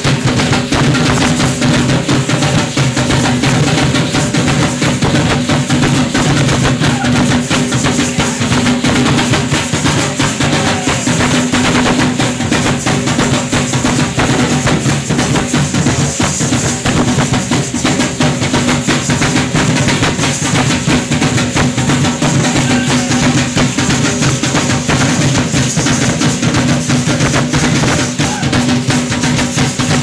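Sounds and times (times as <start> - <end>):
fast drumming: 0.0 - 30.0.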